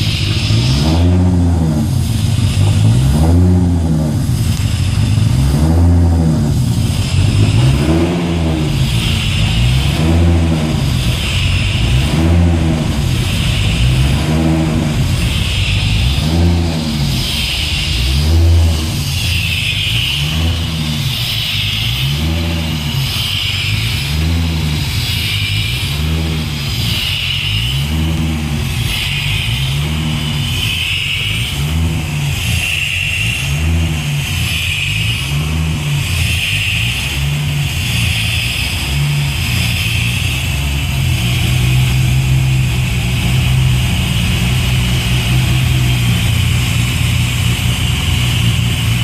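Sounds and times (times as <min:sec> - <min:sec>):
car engine revving and idling: 0:00.0 - 0:49.0.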